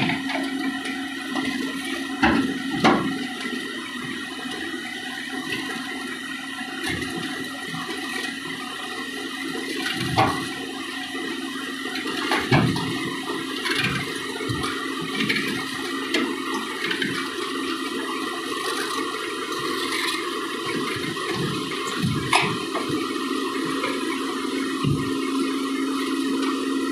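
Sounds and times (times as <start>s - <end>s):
diesel engine running with whine: 0.0s - 26.9s.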